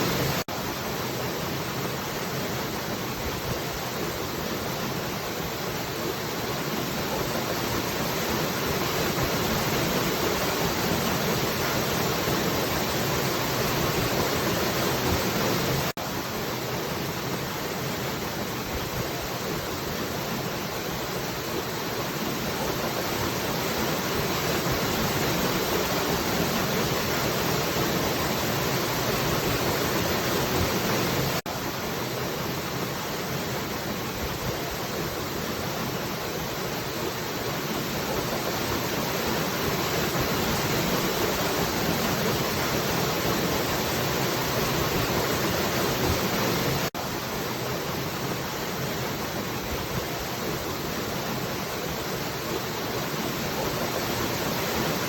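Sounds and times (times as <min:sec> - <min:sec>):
falling water rushing: 0:00.0 - 0:55.0.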